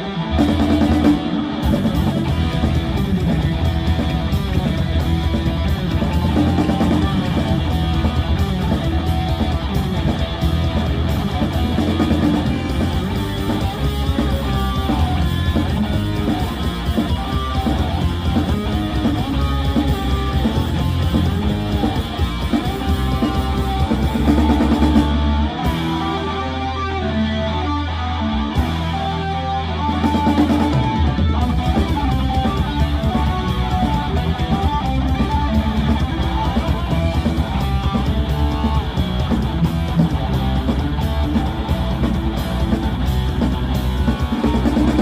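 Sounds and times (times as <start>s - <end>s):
bass guitar: 0.0s - 45.0s
drum kit: 0.0s - 45.0s
electric guitar: 0.0s - 45.0s.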